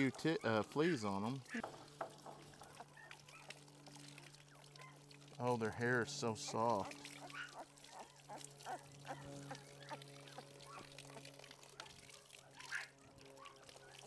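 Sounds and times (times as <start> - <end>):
hose water trickling: 0.0 - 14.0.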